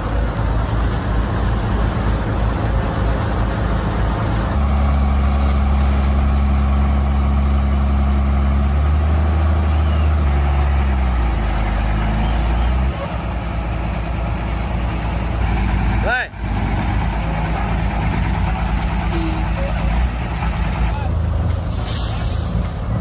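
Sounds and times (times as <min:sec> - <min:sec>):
heavy truck engine running: 0:00.0 - 0:23.0.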